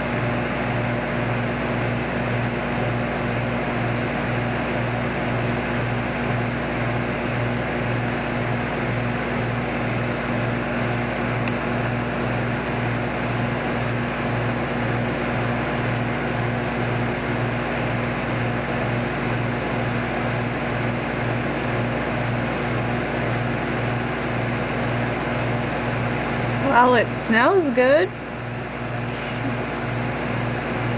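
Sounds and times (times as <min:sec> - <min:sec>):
cooling fan rushing: 0:00.0 - 0:30.9
microwave oven humming: 0:00.0 - 0:30.9.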